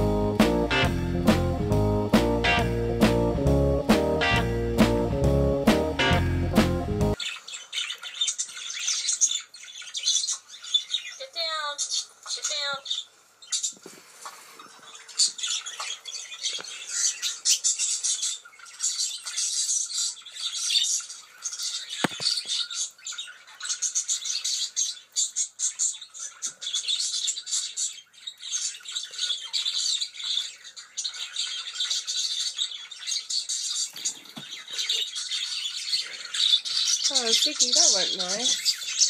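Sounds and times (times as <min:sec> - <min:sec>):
budgerigars chattering: 0:00.0 - 0:13.8, 0:14.6 - 0:39.0.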